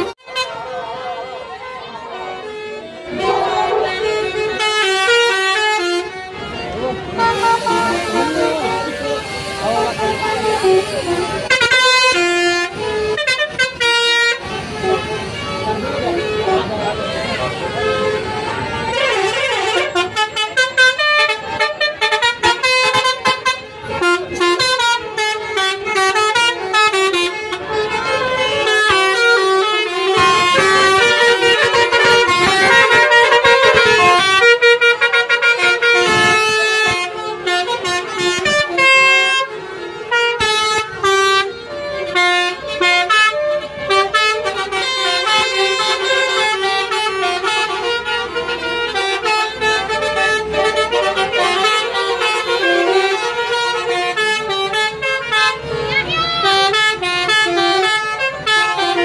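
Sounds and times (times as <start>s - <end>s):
bus horn trumpets playing a tune: 0.0s - 59.0s.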